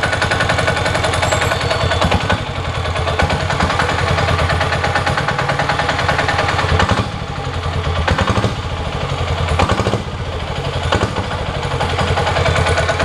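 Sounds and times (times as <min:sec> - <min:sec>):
diesel engine clattering: 0:00.0 - 0:13.0.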